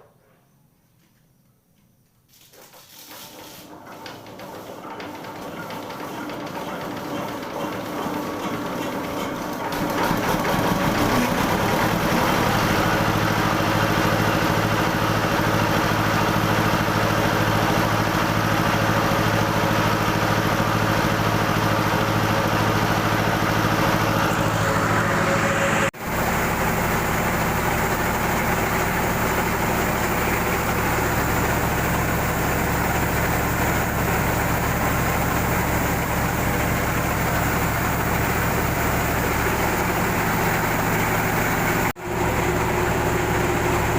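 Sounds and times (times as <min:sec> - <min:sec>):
rice mill machinery drone: 0:03.2 - 0:43.9.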